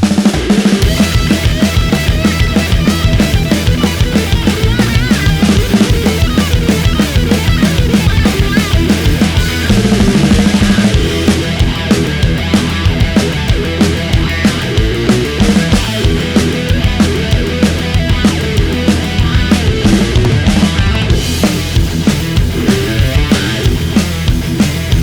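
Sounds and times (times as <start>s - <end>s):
loud rock music: 0.0s - 25.0s.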